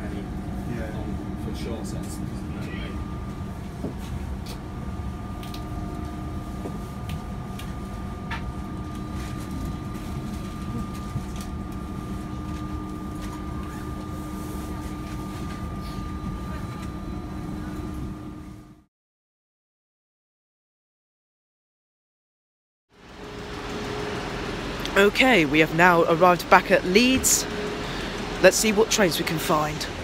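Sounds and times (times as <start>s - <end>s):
train rumbling from on board: 0.0s - 18.8s, 23.0s - 30.0s.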